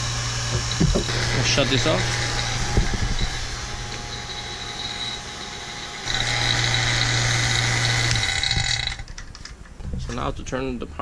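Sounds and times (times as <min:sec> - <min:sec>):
high whine: 0:00.0 - 0:09.1
machine running: 0:00.0 - 0:09.2.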